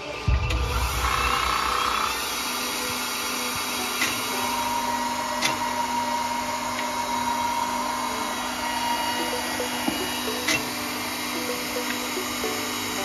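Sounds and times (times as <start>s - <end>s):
grinder motor humming: 0.0s - 13.0s
high-pitched whine: 0.0s - 13.0s.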